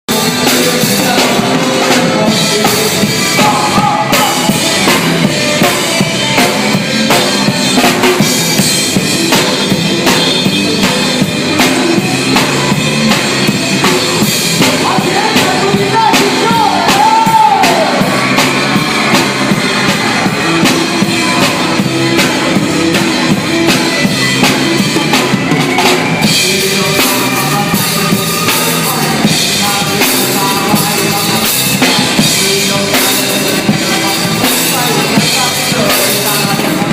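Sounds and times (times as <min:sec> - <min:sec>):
song with drum kit: 0:00.0 - 0:36.9.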